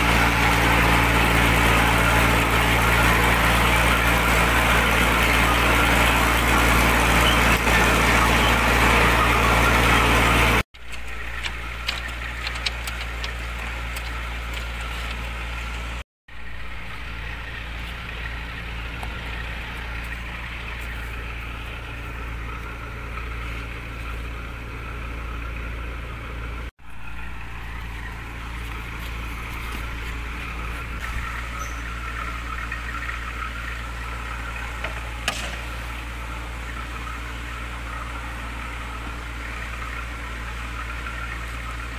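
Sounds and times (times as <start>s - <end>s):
machinery low drone: 0.0s - 41.9s.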